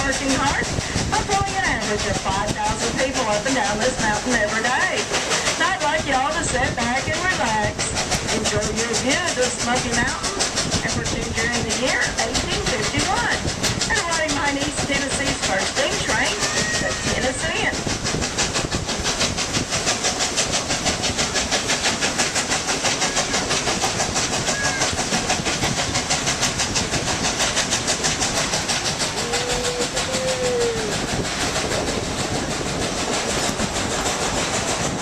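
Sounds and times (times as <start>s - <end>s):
rumble of train cars: 0.0s - 35.0s
steam locomotive chuffing: 0.0s - 35.0s.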